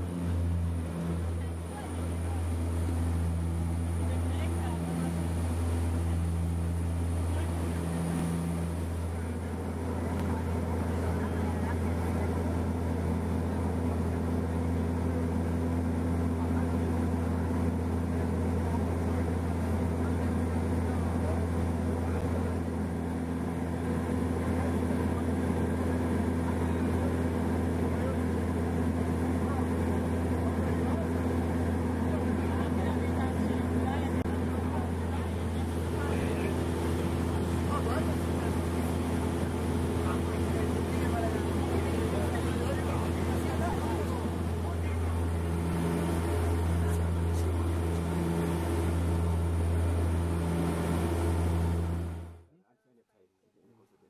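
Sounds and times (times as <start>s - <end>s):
propeller aircraft engines droning: 0.0s - 52.5s.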